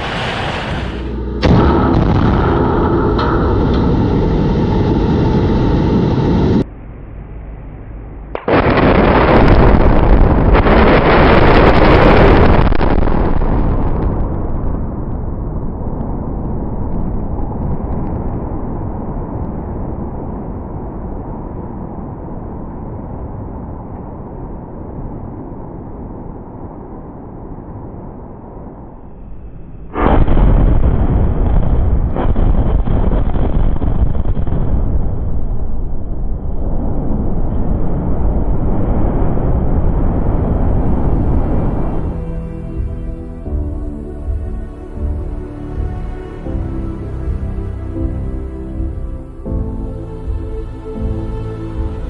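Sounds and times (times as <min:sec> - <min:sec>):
deep rumble of collapsing building: 0:00.0 - 0:52.0.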